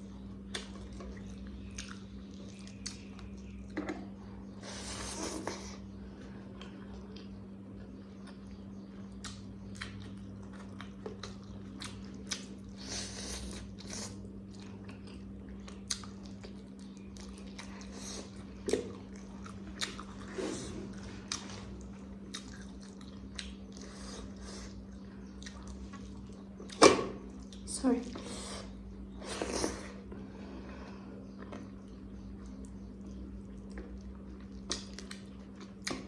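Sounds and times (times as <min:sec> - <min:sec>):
person chewing food: 0:00.0 - 0:27.7, 0:28.6 - 0:36.0
low hum: 0:00.0 - 0:36.0.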